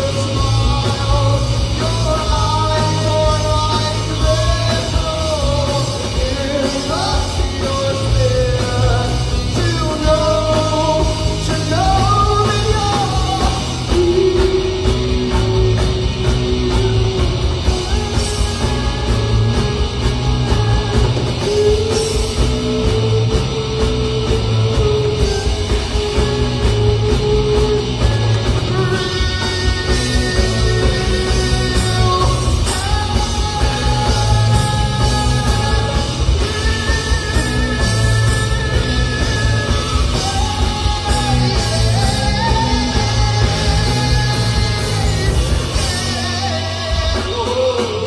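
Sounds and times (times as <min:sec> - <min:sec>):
bass guitar: 0:00.0 - 0:48.0
drums: 0:00.0 - 0:48.0
electric guitar: 0:00.0 - 0:48.0.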